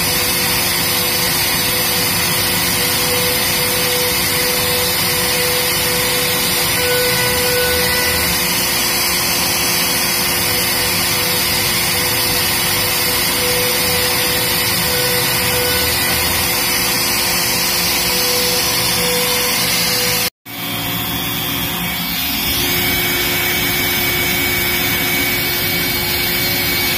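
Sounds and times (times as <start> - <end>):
router bit cutting wood: 0.0 - 26.9
router spindle whining: 0.0 - 26.9.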